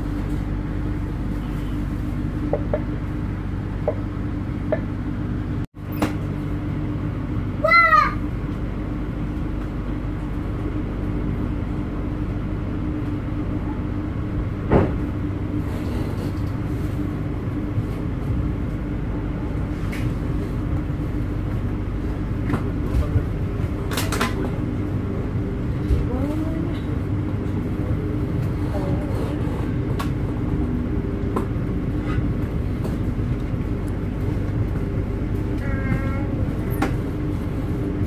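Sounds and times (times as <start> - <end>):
train rumble and hum: 0.0 - 38.0.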